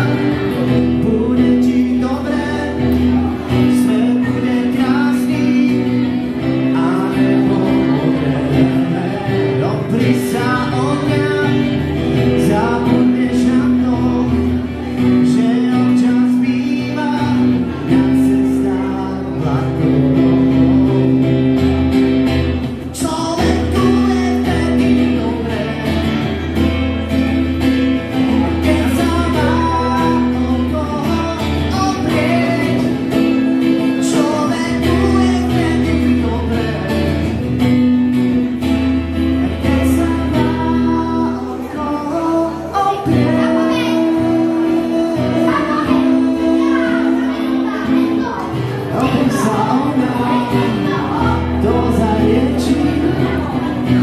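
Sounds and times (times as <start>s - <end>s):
amplified acoustic guitar strumming: 0.0s - 54.0s
man singing: 0.0s - 54.0s.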